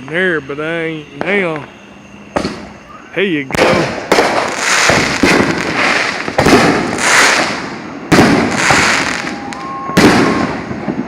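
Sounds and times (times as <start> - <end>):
fireworks bangs with crackle: 1.1 - 11.0.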